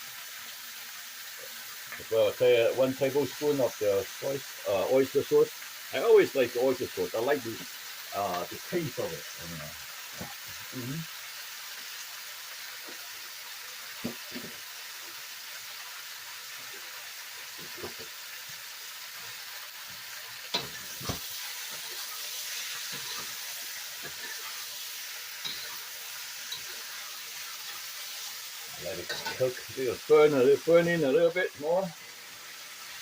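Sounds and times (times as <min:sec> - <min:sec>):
food sizzling in pan: 0:00.0 - 0:33.0.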